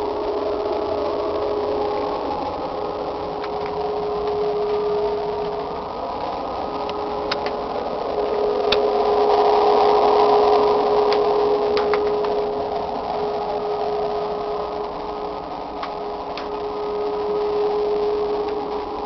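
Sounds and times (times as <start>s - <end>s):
loud steady drone: 0.0s - 19.0s.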